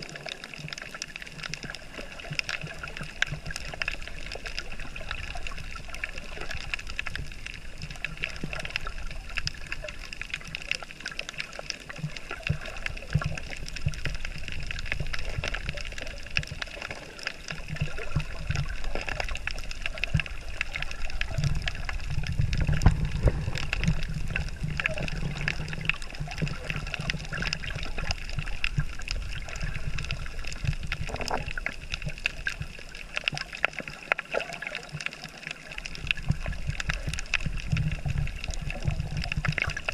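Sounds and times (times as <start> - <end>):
faint crackling clicks: 0.0 - 39.9
low underwater rumble: 0.0 - 39.9
muffled water movement: 0.0 - 39.9.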